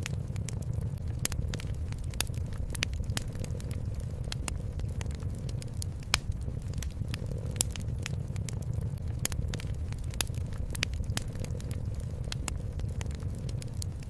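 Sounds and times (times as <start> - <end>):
cat purring: 0.0 - 14.0
wood fire crackling and popping: 0.0 - 14.0.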